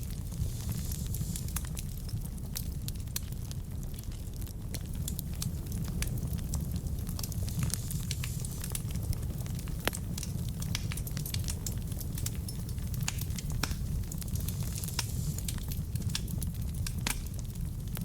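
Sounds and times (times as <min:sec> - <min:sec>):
logs crackling and popping: 0:00.0 - 0:18.0
wood fire burning: 0:00.0 - 0:18.0.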